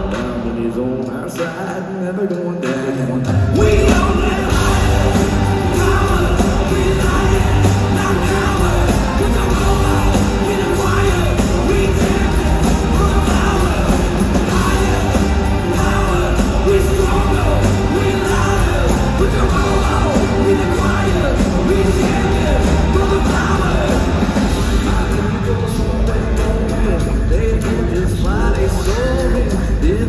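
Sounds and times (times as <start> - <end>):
person singing: 0.0 - 30.0
live rock band playing: 3.1 - 30.0.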